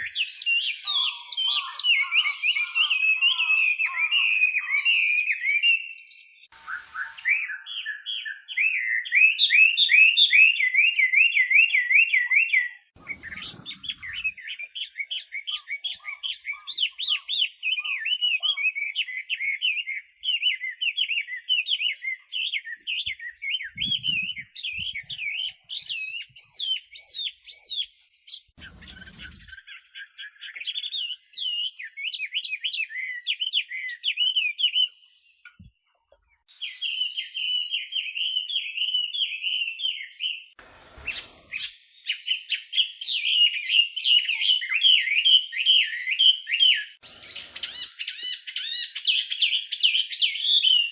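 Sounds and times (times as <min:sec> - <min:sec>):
bird singing whistled phrases: 0:00.0 - 0:35.1, 0:36.5 - 0:50.9.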